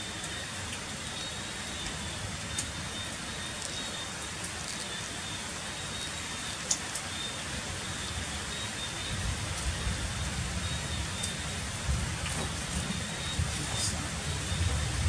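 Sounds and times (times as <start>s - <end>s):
heavy rain on stone paving: 0.0s - 15.0s.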